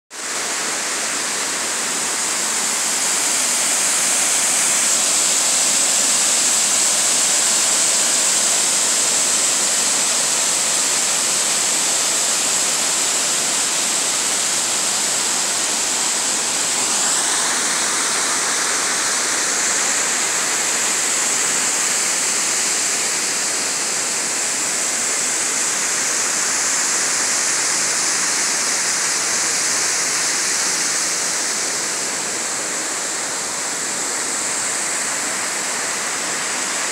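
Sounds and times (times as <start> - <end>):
waterfall splashing: 0.2 - 36.9.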